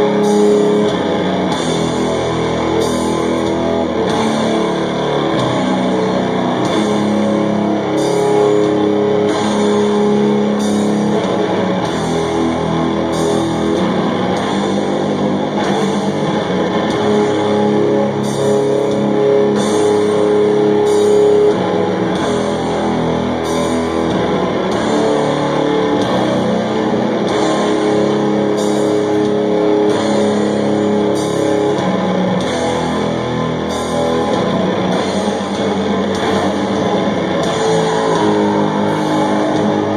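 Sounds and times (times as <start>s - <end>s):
bass: 0.0s - 39.9s
heavy distorted guitar chords: 0.0s - 39.9s.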